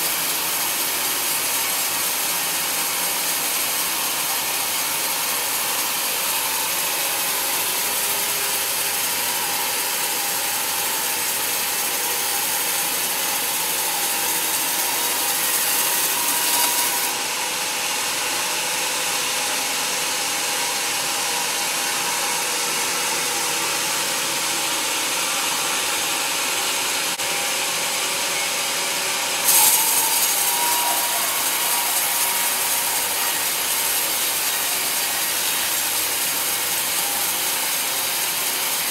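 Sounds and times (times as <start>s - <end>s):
band saw cutting wood: 0.0s - 18.0s, 19.8s - 38.9s.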